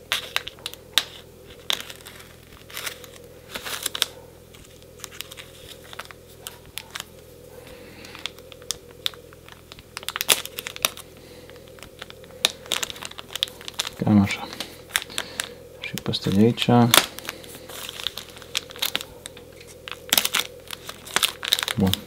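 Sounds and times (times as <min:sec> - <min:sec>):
faint steady hum: 0:00.0 - 0:22.0
plastic bag crinkling: 0:00.0 - 0:22.0.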